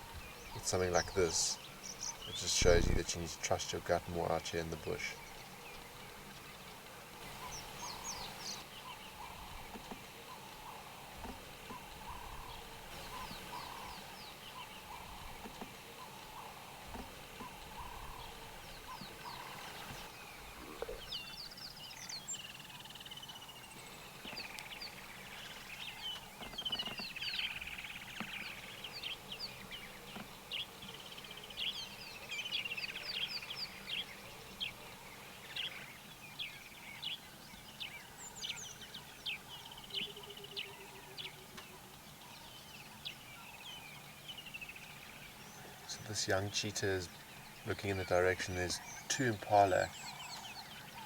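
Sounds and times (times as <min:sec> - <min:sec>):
faint outdoor background: 0:00.0 - 0:51.0
wild birds chirping and singing: 0:00.0 - 0:51.0.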